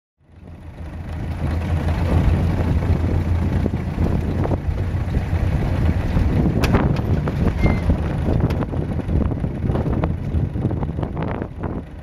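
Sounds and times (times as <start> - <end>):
vehicle driving on dirt track: 0.2 - 12.0.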